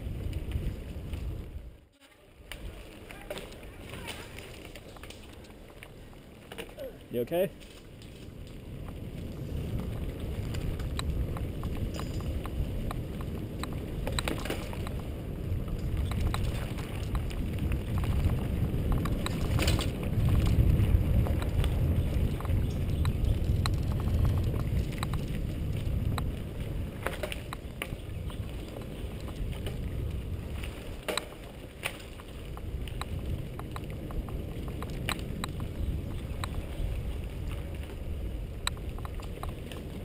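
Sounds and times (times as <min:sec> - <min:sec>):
wind buffeting microphone: 0:00.0 - 0:01.8, 0:02.6 - 0:40.0
bike clicks and rattles: 0:02.4 - 0:40.0.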